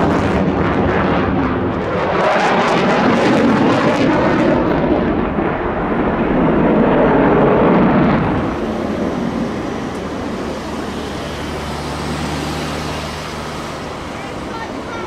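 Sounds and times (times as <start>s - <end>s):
jet engine crackling rumble: 0.0s - 15.0s.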